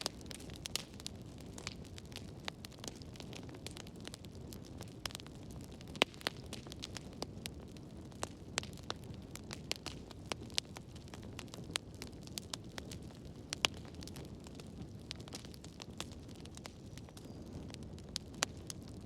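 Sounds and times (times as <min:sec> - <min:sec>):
low rush of flames: 0:00.0 - 0:19.0
wood fire crackling and popping: 0:00.0 - 0:19.0.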